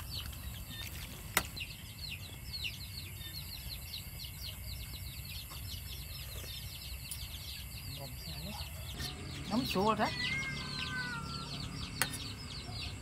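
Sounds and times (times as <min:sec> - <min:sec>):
chorus of high chirps: 0:00.0 - 0:13.0.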